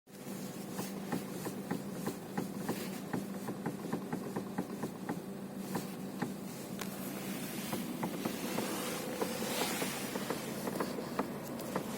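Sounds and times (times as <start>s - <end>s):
steady hum: 0.1s - 11.9s
steering knocking: 0.5s - 11.9s.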